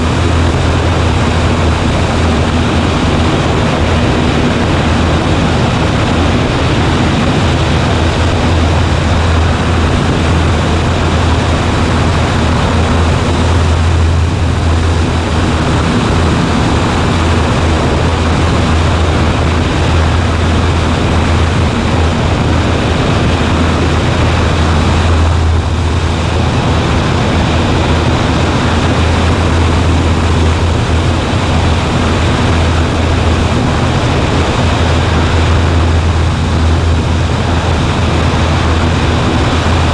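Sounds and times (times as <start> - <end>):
airplane engine droning: 0.0 - 39.9
rushing noise: 0.0 - 39.9.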